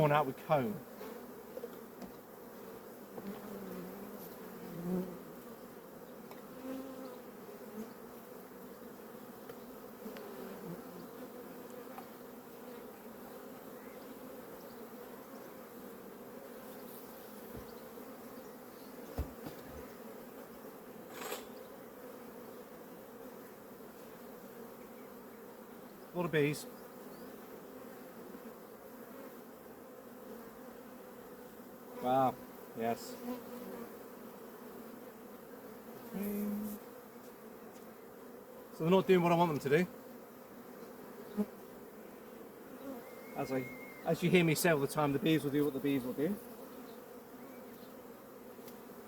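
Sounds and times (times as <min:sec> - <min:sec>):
bees buzzing: 0:00.0 - 0:49.0.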